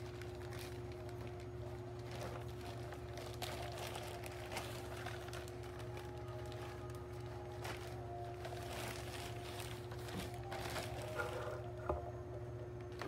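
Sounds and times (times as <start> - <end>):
plastic wrapping crinkling: 0.0 - 12.1, 12.8 - 13.0
steady low hum: 0.0 - 13.0.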